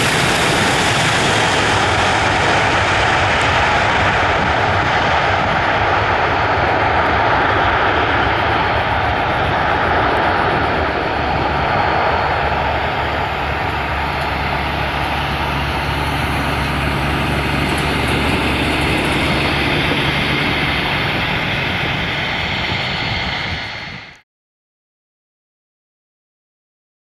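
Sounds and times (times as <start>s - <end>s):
jet engines reverse thrust: 0.0s - 24.2s.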